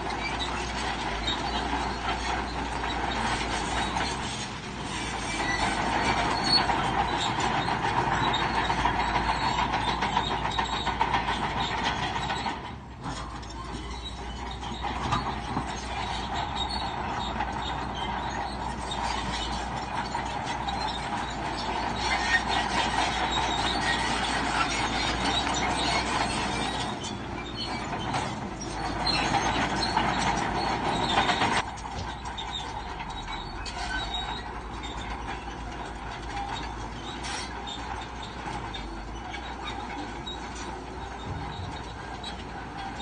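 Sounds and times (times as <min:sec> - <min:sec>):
bulldozer engine running: 0:00.0 - 0:43.0
steel tracks clanking and squealing: 0:00.0 - 0:43.0.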